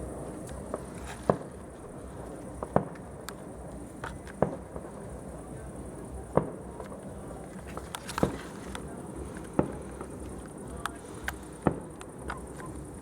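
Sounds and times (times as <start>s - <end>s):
faint fireworks pops: 0.0s - 13.0s
fireworks bangs: 0.0s - 13.0s.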